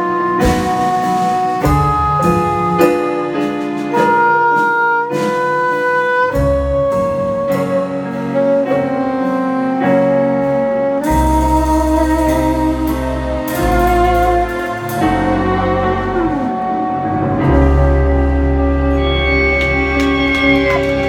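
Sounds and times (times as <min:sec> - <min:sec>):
rock band playing: 0:00.0 - 0:21.0
soprano saxophone melody: 0:00.0 - 0:21.0.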